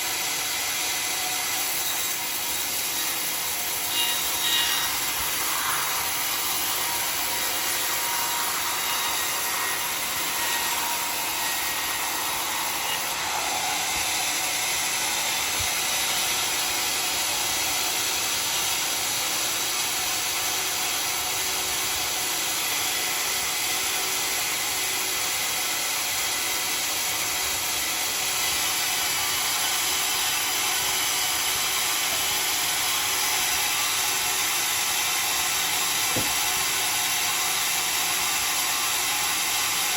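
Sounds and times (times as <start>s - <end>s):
saw cutting dry wood: 0.0s - 39.9s.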